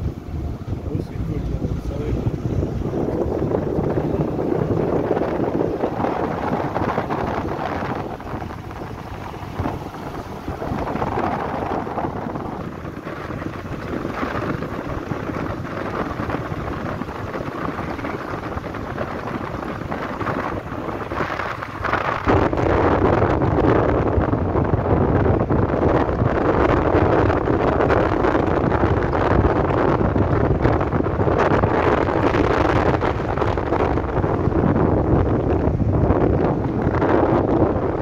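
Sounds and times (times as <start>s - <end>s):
road noise: 0.0s - 38.0s
wind buffeting microphone: 0.0s - 38.0s.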